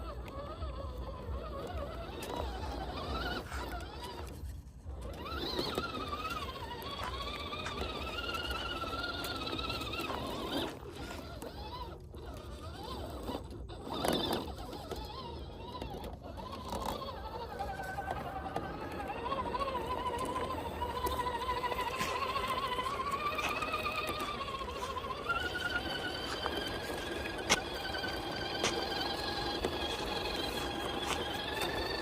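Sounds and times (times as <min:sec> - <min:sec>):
electric motor and gearbox whining: 0:00.0 - 0:32.0.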